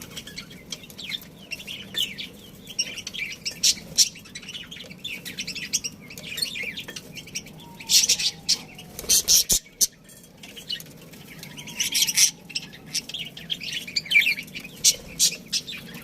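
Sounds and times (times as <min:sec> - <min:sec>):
budgerigars chattering: 0:00.0 - 0:10.0, 0:10.6 - 0:16.0.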